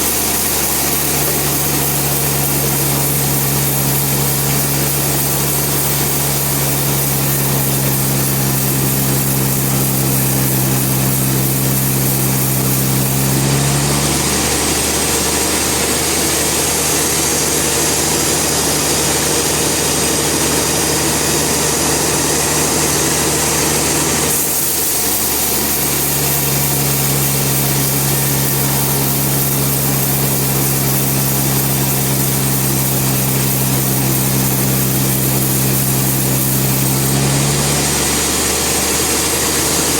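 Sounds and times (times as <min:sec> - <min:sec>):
band sawmill engine hum: 0:00.0 - 0:39.9
saw blade cutting hiss: 0:00.0 - 0:39.9.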